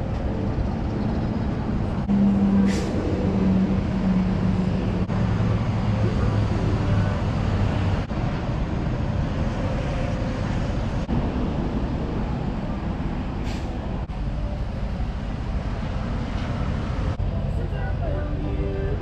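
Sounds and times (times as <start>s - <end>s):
car driving road noise: 0.0s - 19.0s.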